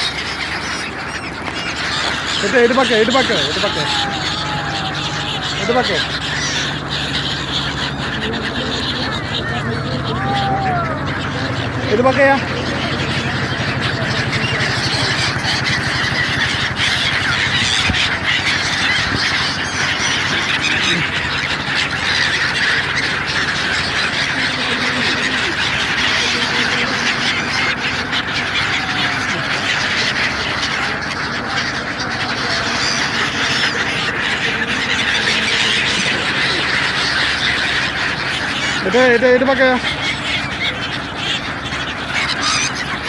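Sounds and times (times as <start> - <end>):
flock of birds calling: 0.0 - 43.0.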